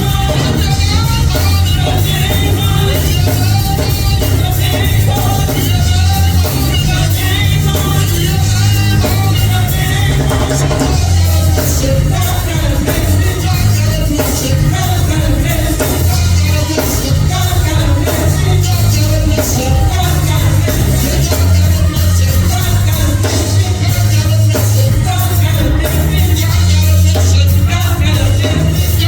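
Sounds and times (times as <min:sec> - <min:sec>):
gospel band playing: 0:00.0 - 0:29.0
voices singing: 0:00.0 - 0:29.0.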